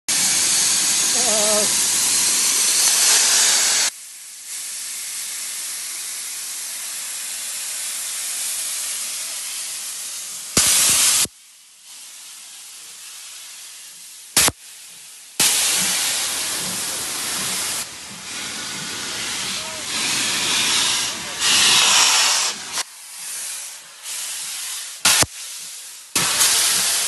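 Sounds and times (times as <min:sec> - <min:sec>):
loud blast of steam: 0:00.1 - 0:27.0
steam hissing: 0:00.1 - 0:27.0.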